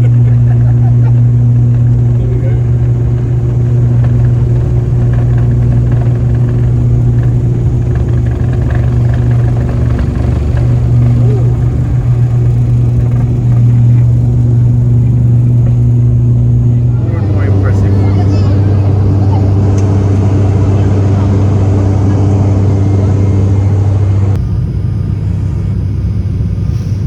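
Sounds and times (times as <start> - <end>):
engine and air rushing: 0.0 - 27.0
propeller drone in aircraft cabin: 0.0 - 27.0.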